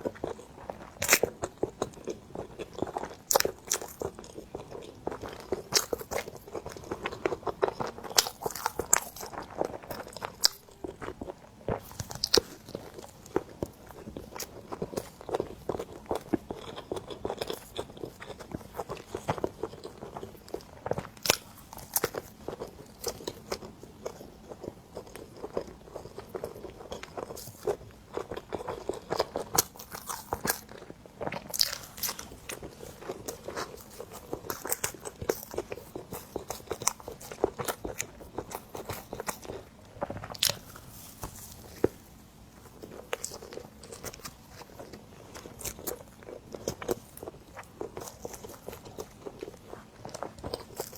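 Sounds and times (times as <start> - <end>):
person chewing bread: 0.0 - 50.9.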